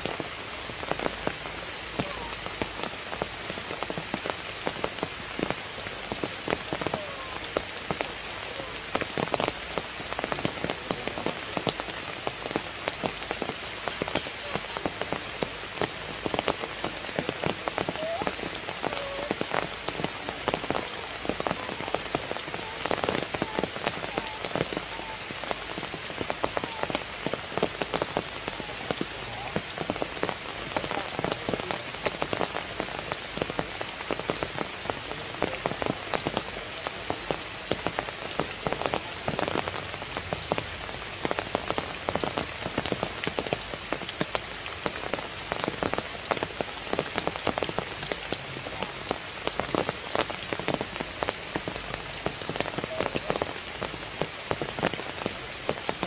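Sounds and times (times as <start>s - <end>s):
heavy rain falling: 0.0s - 56.0s
sharp taps of raindrops: 0.0s - 56.0s.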